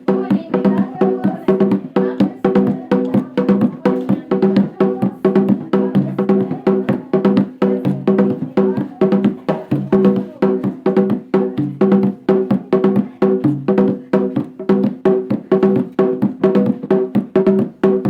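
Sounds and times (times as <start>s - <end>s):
struck percussion rhythm: 0.0s - 18.0s.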